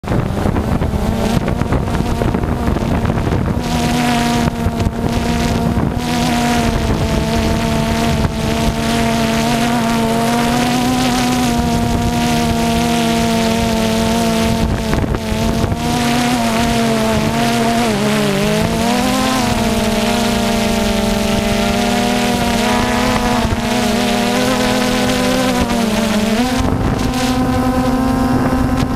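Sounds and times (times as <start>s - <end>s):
drone propellers buzzing: 0.0s - 28.9s
wind hiss: 0.0s - 28.9s.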